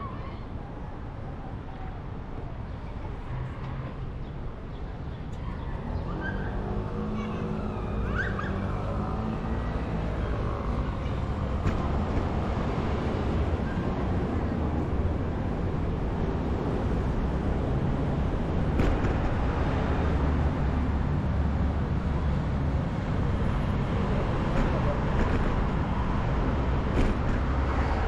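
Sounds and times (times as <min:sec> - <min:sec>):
road noise: 0:00.0 - 0:28.0.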